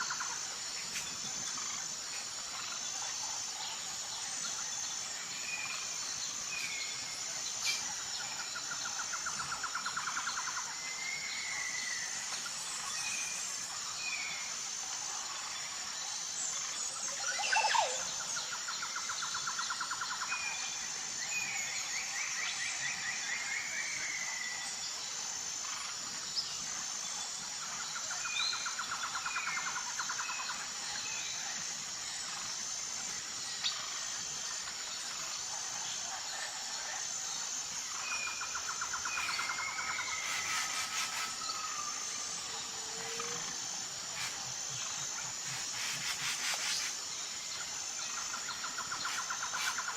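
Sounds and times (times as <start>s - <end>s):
high insect buzz: 0.0s - 49.9s.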